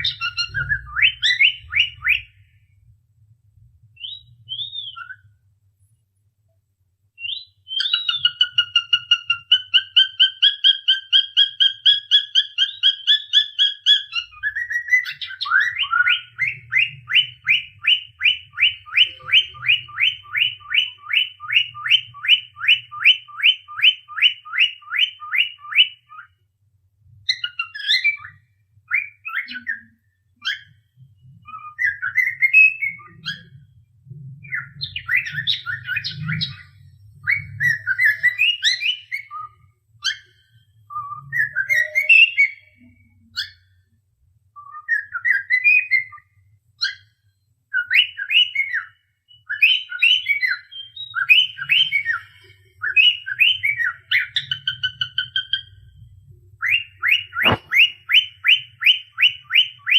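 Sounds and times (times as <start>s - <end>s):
cockatiel chirping and whistling: 0.0s - 2.4s, 4.0s - 5.3s, 7.2s - 26.4s, 27.2s - 30.8s, 31.4s - 33.7s, 34.4s - 43.7s, 44.6s - 47.1s, 47.7s - 55.8s, 56.6s - 59.9s.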